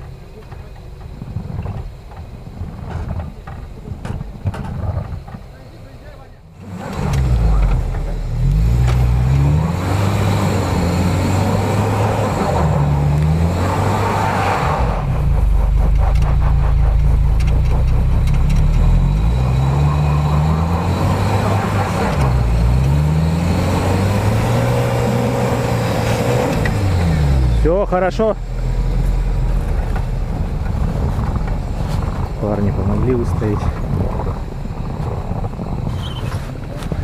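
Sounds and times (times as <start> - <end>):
car engine revving hard: 6.6 - 37.0.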